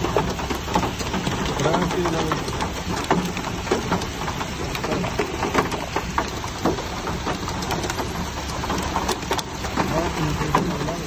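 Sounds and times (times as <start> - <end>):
car hum: 0.0 - 11.0
rain pattering on car: 0.0 - 11.0.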